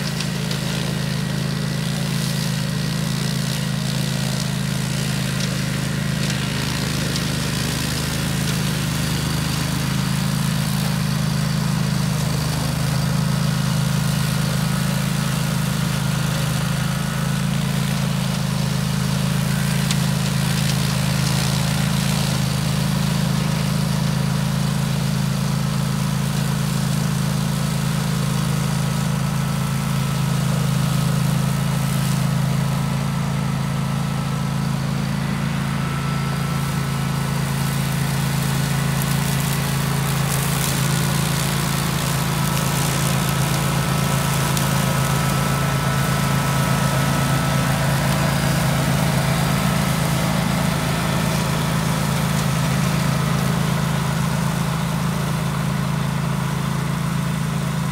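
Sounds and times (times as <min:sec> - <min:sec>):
brush cutter engine running: 0:00.0 - 0:57.9.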